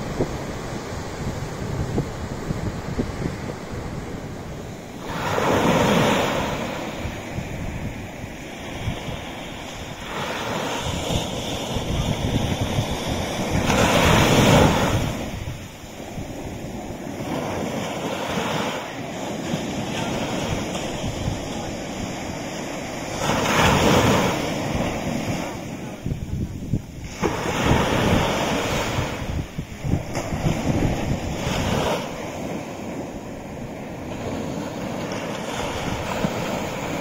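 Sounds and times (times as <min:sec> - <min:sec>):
ocean waves breaking on sand: 0:00.0 - 0:37.0.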